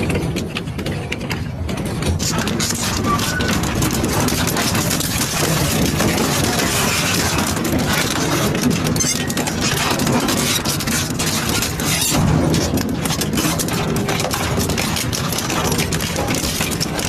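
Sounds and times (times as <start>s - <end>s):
shredder crunching material: 2.1s - 17.0s.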